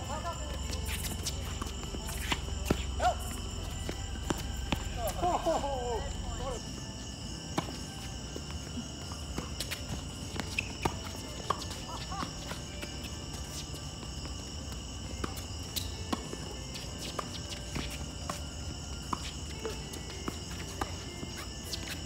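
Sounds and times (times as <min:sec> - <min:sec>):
night insects droning: 0:00.0 - 0:22.0.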